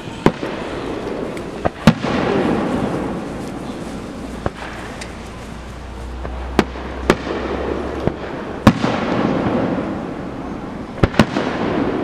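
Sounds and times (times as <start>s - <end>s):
fireworks bursting: 0.0s - 12.0s
rolling noise of fireworks display: 0.0s - 12.0s.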